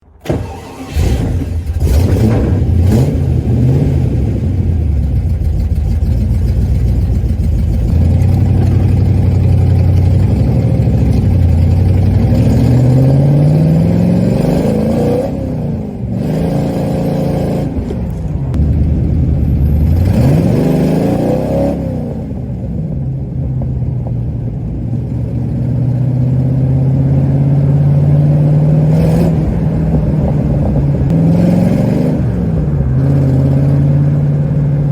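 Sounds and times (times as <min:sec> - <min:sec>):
car engine and exhaust accelerating: 0:00.2 - 0:34.9.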